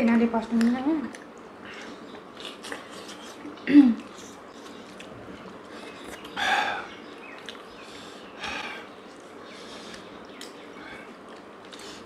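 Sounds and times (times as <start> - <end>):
chewing noises: 0.4 - 12.0.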